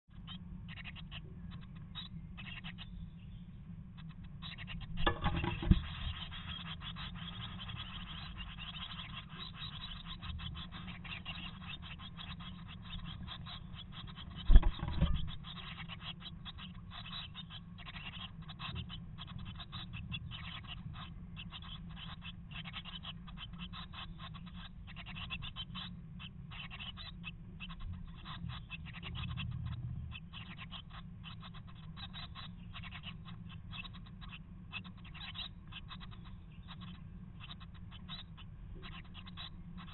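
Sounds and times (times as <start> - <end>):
low steady hum: 0.1 - 39.9.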